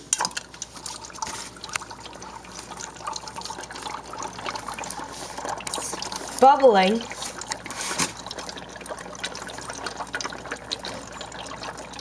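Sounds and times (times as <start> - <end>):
dry ice bubbling in water: 0.1 - 12.0.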